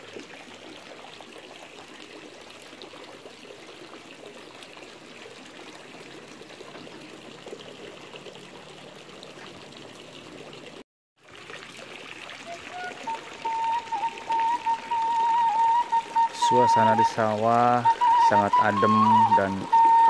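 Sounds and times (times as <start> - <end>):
trickle of running water: 0.0 - 20.0.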